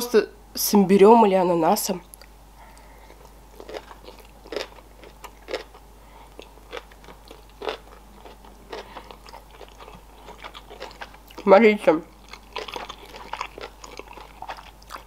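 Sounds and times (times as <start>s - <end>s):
close chewing smacks and crunches: 2.1s - 11.5s, 12.1s - 15.0s.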